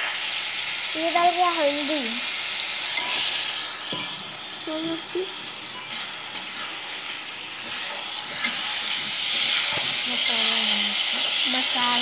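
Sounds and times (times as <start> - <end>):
spices sizzling in a pan: 0.0 - 12.0.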